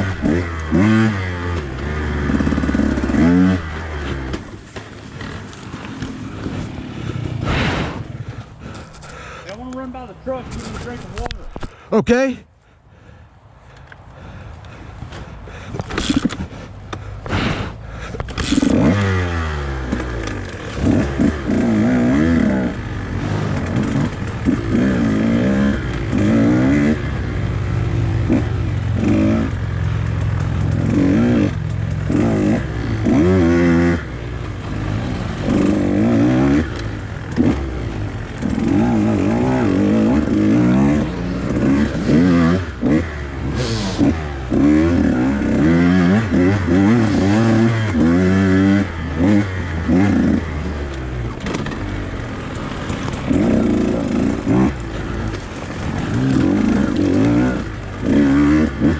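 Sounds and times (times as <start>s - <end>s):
dirt bike engine revving: 0.0s - 11.3s, 17.3s - 58.9s.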